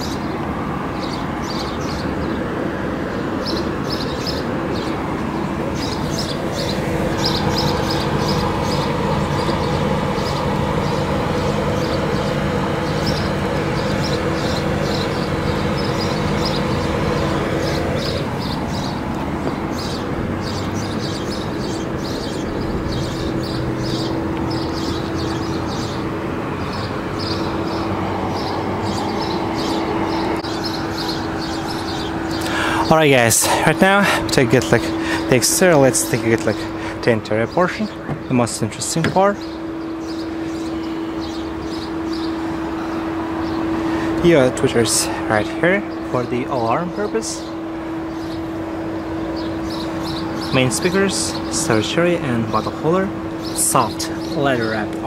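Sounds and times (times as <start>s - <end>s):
car engine humming: 0.0s - 55.0s.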